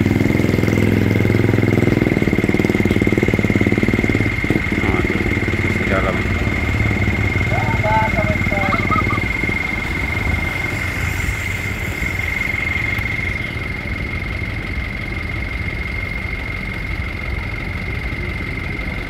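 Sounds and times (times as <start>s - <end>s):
high-pitched whine: 0.0s - 19.0s
truck engines idling: 0.0s - 19.0s.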